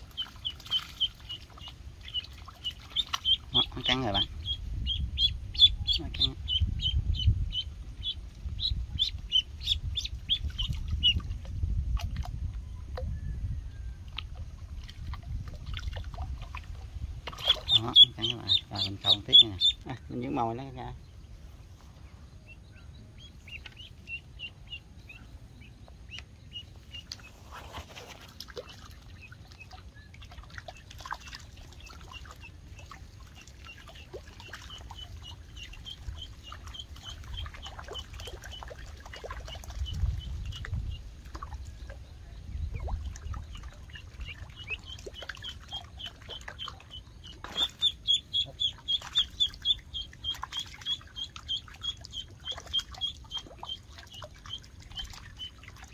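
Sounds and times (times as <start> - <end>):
duckling peeping: 0.0 - 11.4, 17.3 - 21.0, 22.4 - 27.9, 28.6 - 41.0, 42.4 - 55.9.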